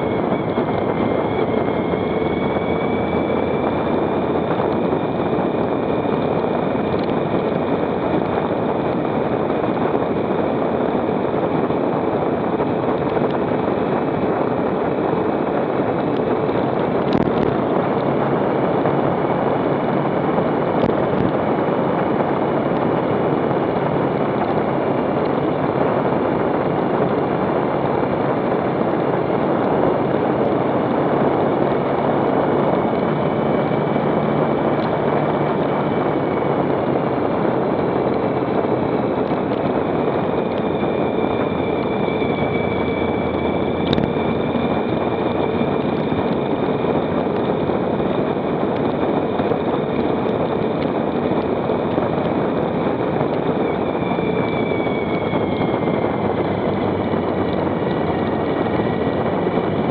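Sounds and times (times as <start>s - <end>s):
motorcycle engine drone: 0.0s - 59.9s
wind noise: 0.0s - 59.9s.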